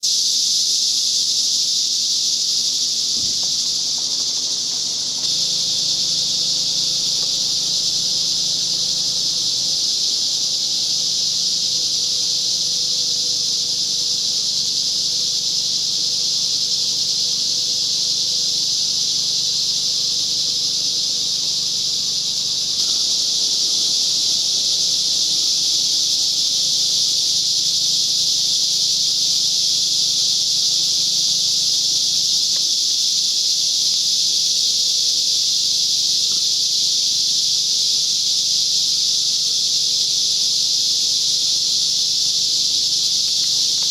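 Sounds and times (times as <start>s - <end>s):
cicadas buzzing loudly: 0.0s - 43.9s.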